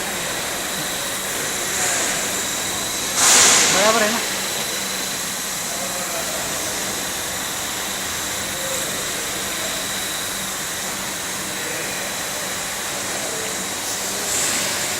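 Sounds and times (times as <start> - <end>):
welding machine hissing: 0.0 - 14.9.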